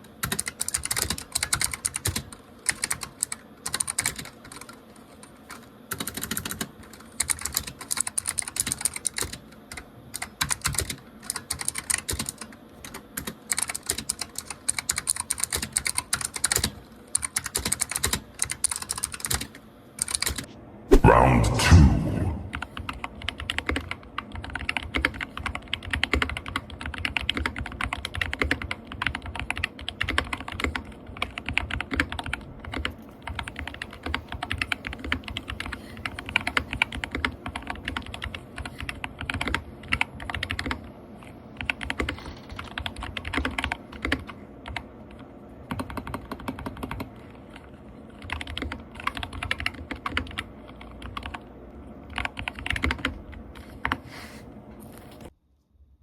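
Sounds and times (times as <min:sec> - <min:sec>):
fast keyboard typing: 0:00.2 - 0:20.5, 0:22.5 - 0:40.9, 0:41.6 - 0:51.5, 0:52.1 - 0:54.0.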